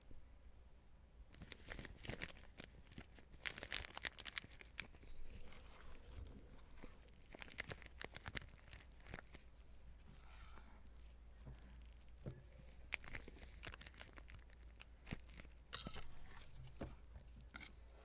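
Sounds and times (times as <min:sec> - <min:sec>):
hands squishing sticky mixture: 0:01.4 - 0:17.8.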